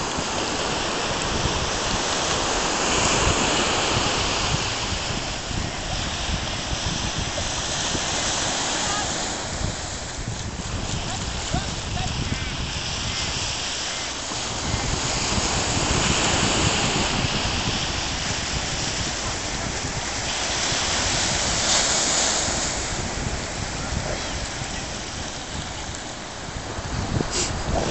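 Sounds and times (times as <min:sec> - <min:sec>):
ocean surf breaking: 0:00.0 - 0:27.9
wind on microphone: 0:00.0 - 0:27.9.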